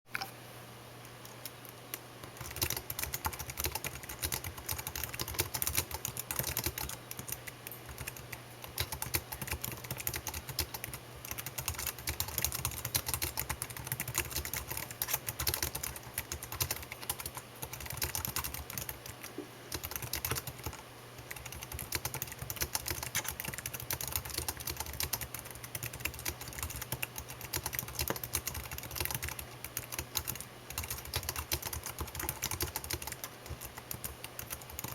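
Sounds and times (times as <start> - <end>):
faint low hum: 0.1 - 34.9
typing on computer keyboard: 2.3 - 34.9.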